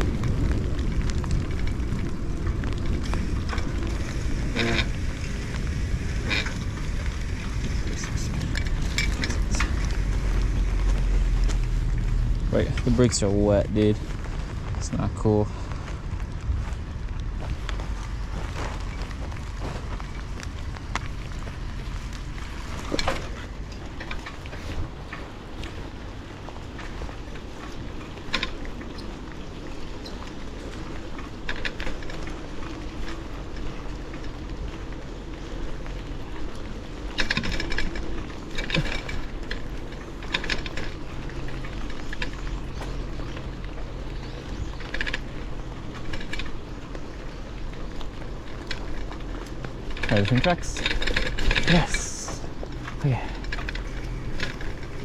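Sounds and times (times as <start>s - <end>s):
light rattles and clicks: 0.0s - 55.0s
wind buffeting microphone: 0.0s - 55.0s.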